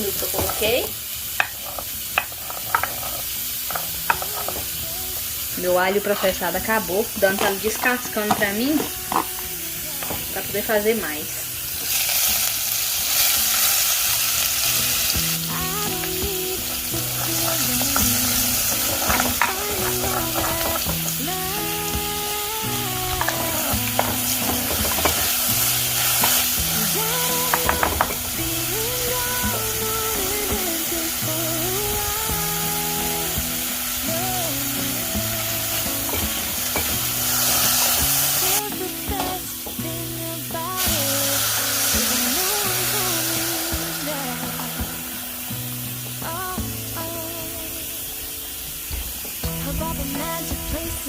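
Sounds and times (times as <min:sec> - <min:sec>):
food sizzling in a pan: 0:00.0 - 0:51.0
soft background music: 0:00.0 - 0:51.0.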